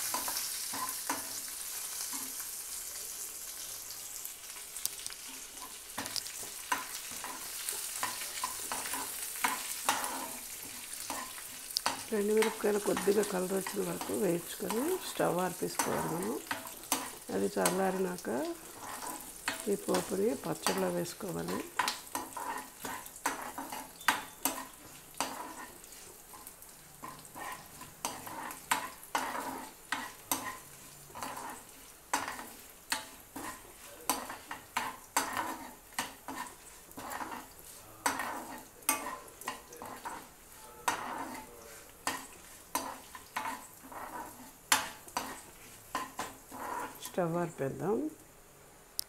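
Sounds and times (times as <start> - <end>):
spoon scraping and tapping pan: 0.0 - 2.4, 4.8 - 47.2
oil sizzling: 0.0 - 49.0.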